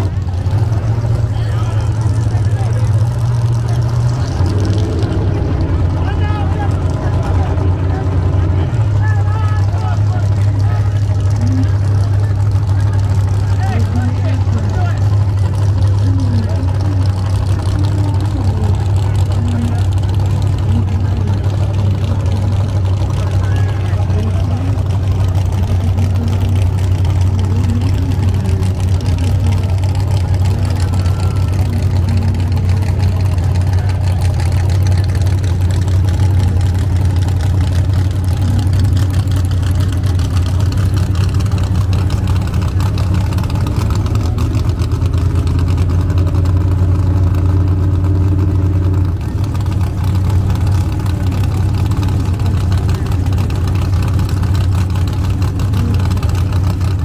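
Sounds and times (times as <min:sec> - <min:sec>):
race car engine idling: 0:00.0 - 0:57.0.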